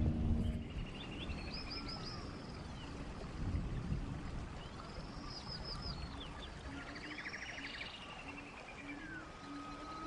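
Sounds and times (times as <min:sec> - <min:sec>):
low background hiss: 0:00.0 - 0:10.0.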